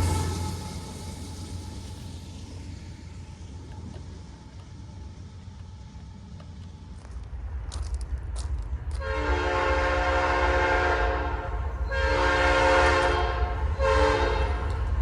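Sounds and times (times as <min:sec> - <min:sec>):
train rumbling on tracks: 0:00.0 - 0:15.0.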